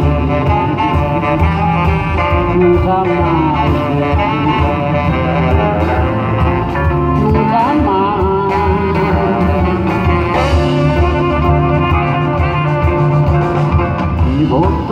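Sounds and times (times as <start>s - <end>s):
live band with acoustic guitar: 0.0s - 14.9s
pitch-bending melody line: 0.0s - 14.9s.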